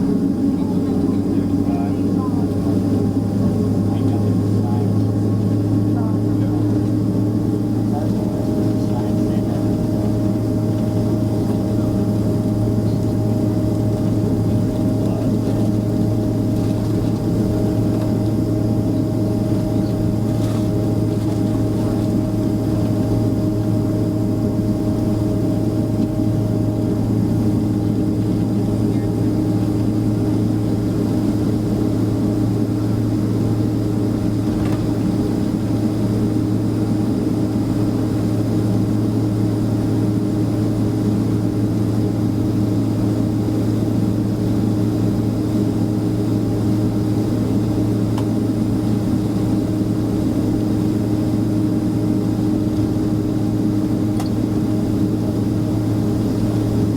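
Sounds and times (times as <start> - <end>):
aircraft cabin drone: 0.0 - 56.9.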